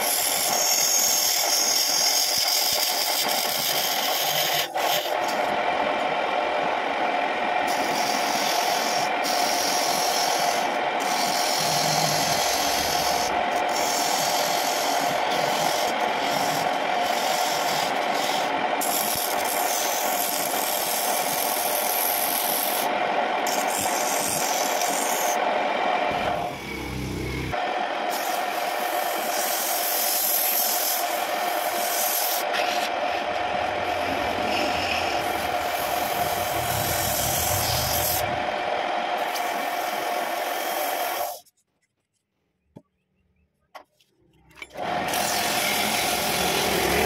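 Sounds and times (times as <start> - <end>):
chisel scraping spinning wood: 0.0 - 6.1, 7.5 - 41.5, 44.7 - 47.0
lathe humming: 0.0 - 41.4, 44.7 - 47.0.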